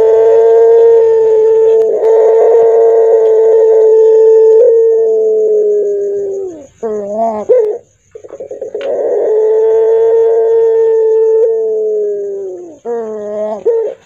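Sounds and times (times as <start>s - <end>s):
dove cooing hoarsely: 0.0s - 14.0s.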